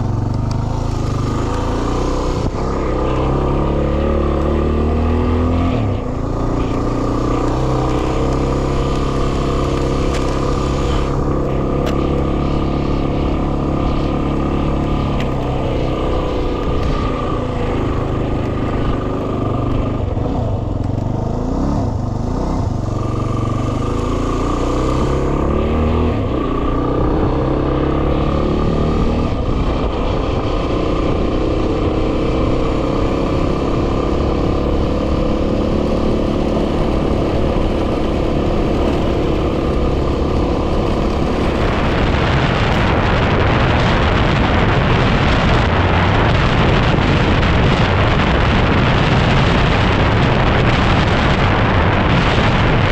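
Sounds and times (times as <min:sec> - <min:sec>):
motorcycle engine revving: 0:00.0 - 0:52.9
wind noise on microphone: 0:00.0 - 0:52.9.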